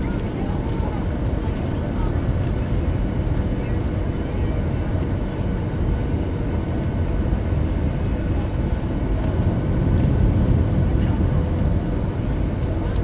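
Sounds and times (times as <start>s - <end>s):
aircraft engines and airflow rumble: 0.0s - 13.0s.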